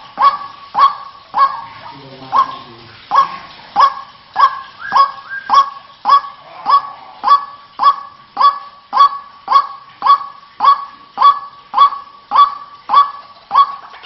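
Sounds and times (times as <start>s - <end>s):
bird harsh kwak calls: 0.0s - 14.0s.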